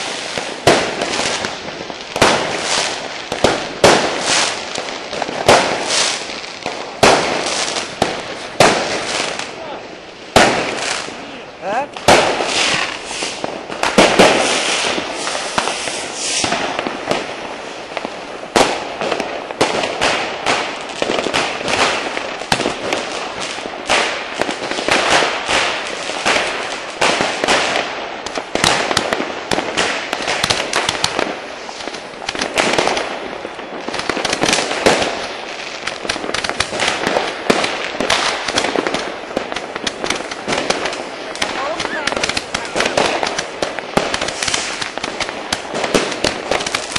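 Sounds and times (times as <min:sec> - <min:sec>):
fireworks and firecrackers banging: 0:00.0 - 0:46.9.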